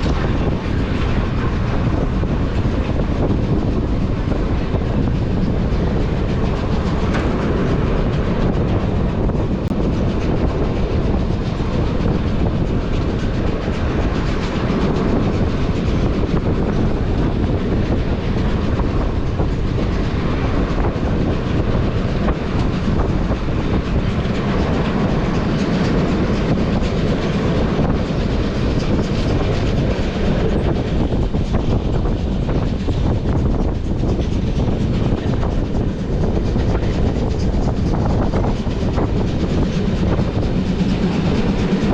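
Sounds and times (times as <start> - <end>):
train rumbling: 0.0 - 41.9
wheels clicking over rail joints: 0.0 - 41.9.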